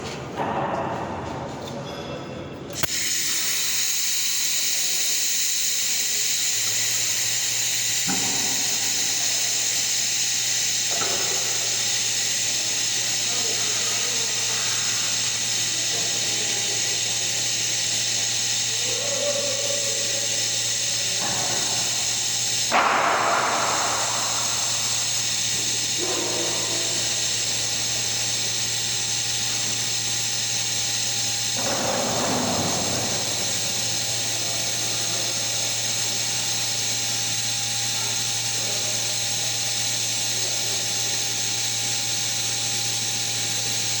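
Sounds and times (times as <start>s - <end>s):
power tool motor whining: 2.7s - 44.0s.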